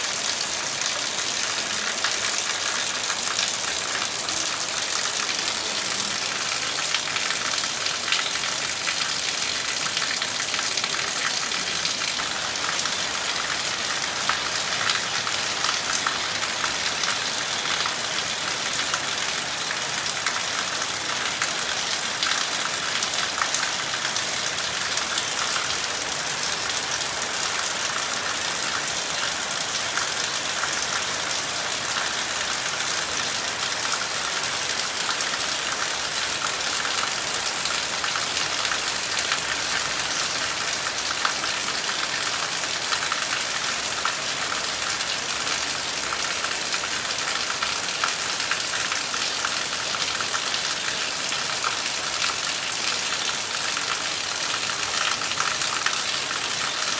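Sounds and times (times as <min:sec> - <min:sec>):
heavy rain on trees and roofs: 0:00.0 - 0:56.9.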